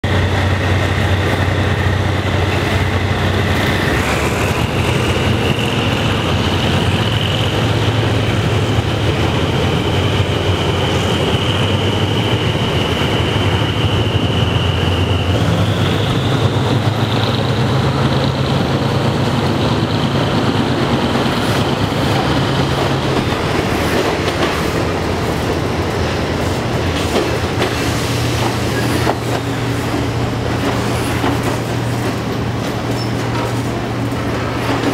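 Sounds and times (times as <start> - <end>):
train coaches rumbling past: 0.0 - 34.9.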